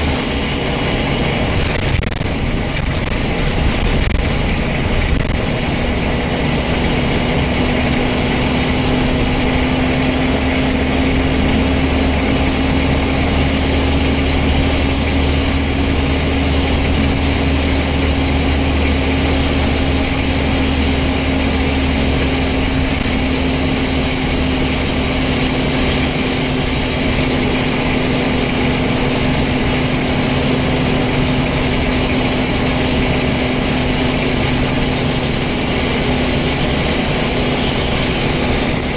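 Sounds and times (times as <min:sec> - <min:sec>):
bus diesel engine drone: 0:00.0 - 0:38.9
deep rumble: 0:00.0 - 0:38.9.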